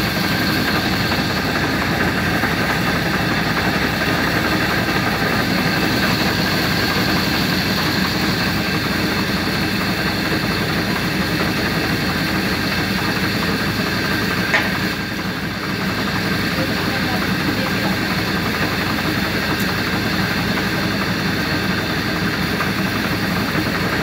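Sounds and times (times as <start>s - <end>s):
machine drone: 0.0s - 24.0s.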